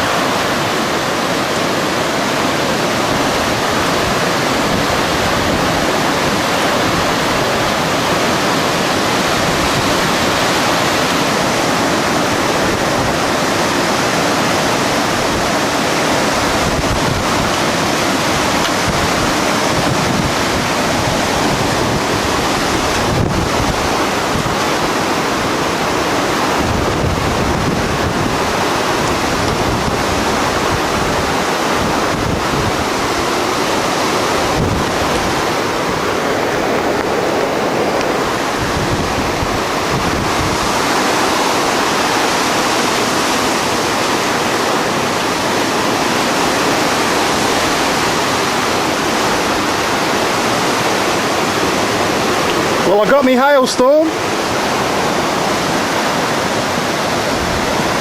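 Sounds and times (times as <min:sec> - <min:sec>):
wind gusts buffeting microphone: 0:00.0 - 0:58.0.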